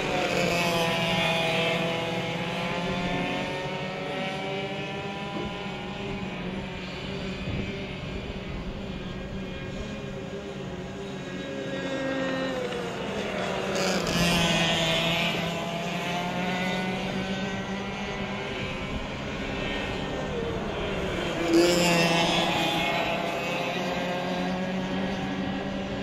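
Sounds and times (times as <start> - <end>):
kart engines buzzing: 0.0 - 26.0.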